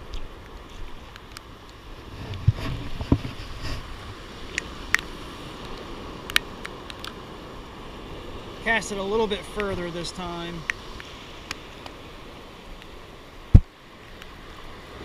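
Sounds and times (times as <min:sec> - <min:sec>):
muffled ocean surf: 0:00.0 - 0:15.0
wind: 0:00.0 - 0:15.0.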